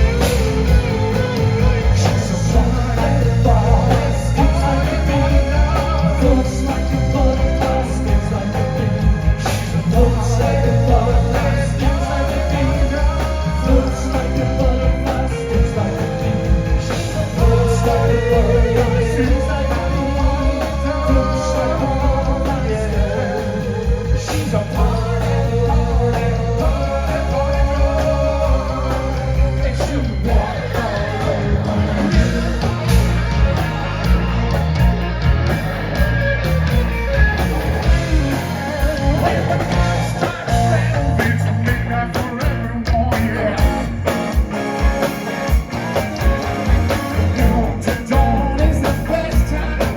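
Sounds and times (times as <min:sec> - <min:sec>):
lead vocal singing: 0:00.0 - 0:49.9
live rock band playing: 0:00.0 - 0:49.9.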